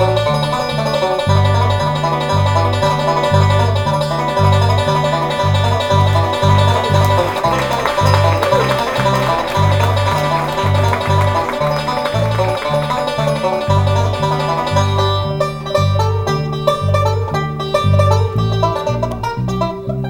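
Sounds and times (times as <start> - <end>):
banjo picked fast: 0.0 - 20.0
bass playing low notes: 0.0 - 20.0.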